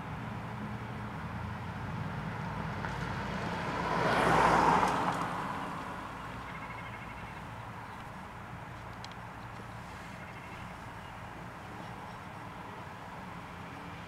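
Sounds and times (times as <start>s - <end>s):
road vehicle passing by: 0.0s - 14.0s.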